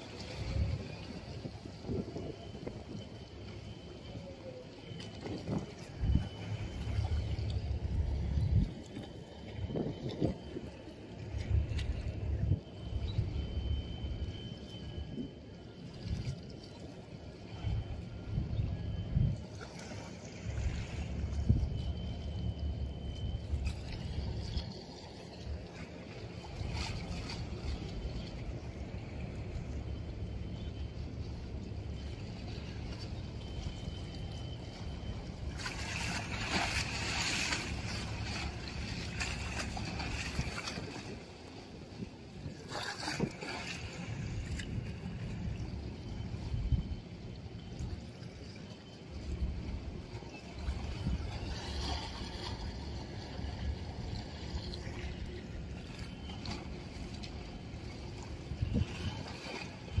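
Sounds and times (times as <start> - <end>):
boat engine rumble: 0.0 - 60.0.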